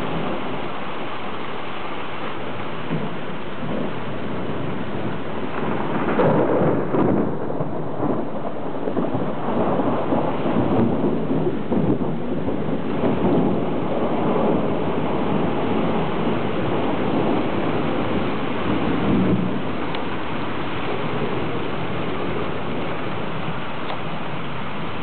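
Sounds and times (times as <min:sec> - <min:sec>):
thunder rumbling: 0:00.0 - 0:01.4, 0:02.3 - 0:25.0
rain hiss: 0:00.0 - 0:25.0.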